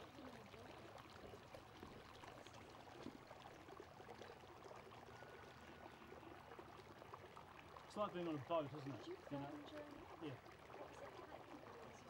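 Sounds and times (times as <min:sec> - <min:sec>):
water trickling and gurgling: 0:00.0 - 0:12.0.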